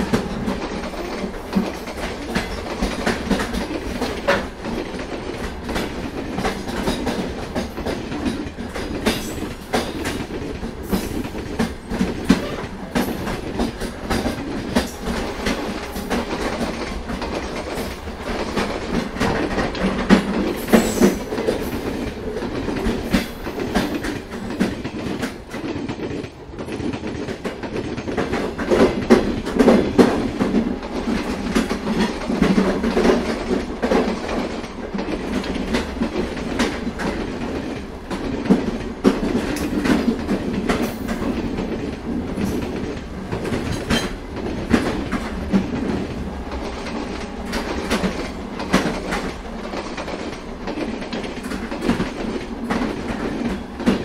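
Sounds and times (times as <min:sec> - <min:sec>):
train rumble inside coach: 0:00.0 - 0:54.0
wheels clicking over rail joints: 0:00.0 - 0:54.0.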